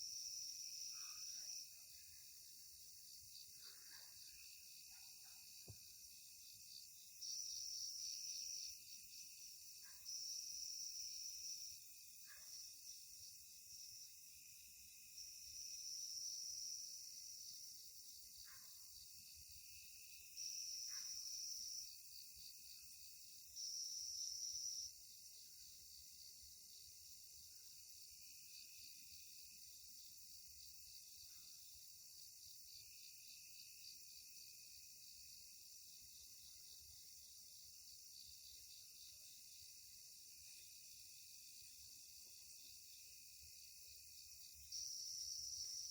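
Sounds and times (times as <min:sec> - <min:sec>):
insect pulsing buzz: 0:00.0 - 0:45.9
insects chirring: 0:00.0 - 0:45.9.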